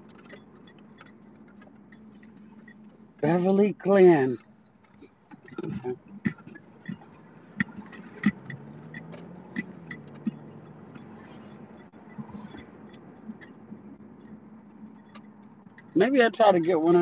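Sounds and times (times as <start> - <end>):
car engine humming: 0.0 - 17.0
car turn signal ticking: 0.0 - 17.0.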